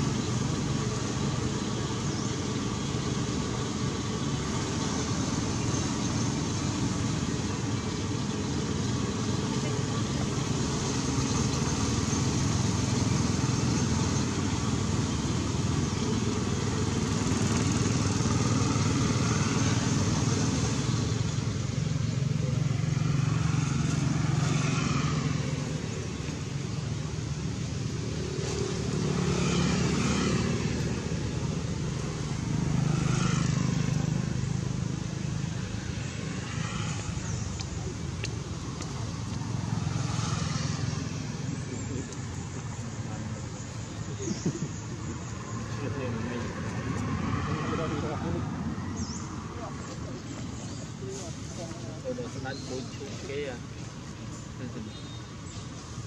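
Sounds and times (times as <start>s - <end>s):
passing motor vehicles: 0.0s - 56.0s.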